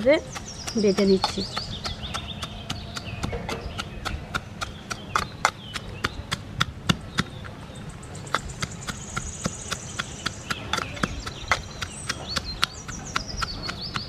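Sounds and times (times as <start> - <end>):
metal pestle pounding in steel tumbler: 0.0 - 7.4, 8.2 - 14.0.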